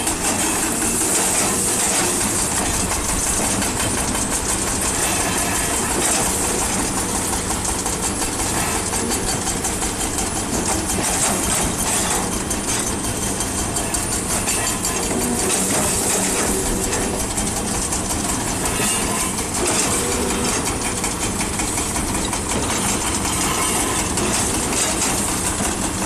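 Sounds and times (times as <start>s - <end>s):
excavator diesel engine running: 0.0s - 26.0s
pulverizer rattling and knocking: 0.0s - 26.0s.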